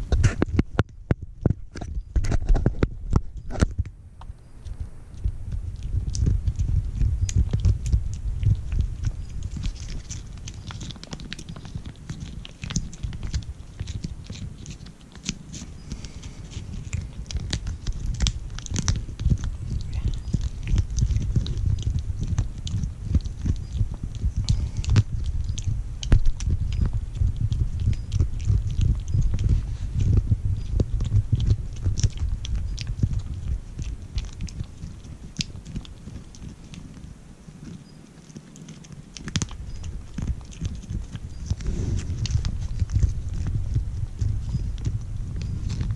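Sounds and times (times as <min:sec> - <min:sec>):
low rumble: 0:00.0 - 0:36.5, 0:39.4 - 0:45.9
kitten licking and chewing: 0:00.0 - 0:45.9
gnawing on plastic: 0:04.6 - 0:45.9.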